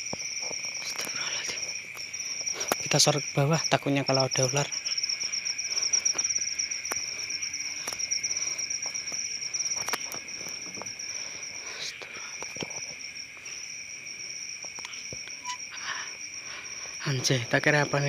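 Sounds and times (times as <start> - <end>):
insects trilling: 0.0 - 18.0
low insect drone: 0.0 - 18.0.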